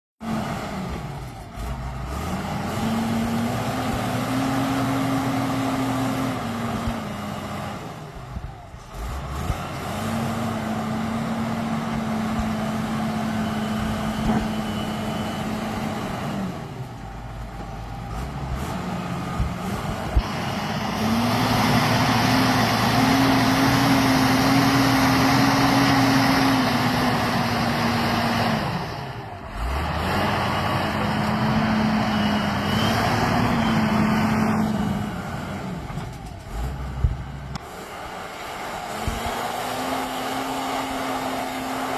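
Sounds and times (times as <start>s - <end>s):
tractor diesel engine revving: 0.2s - 41.9s.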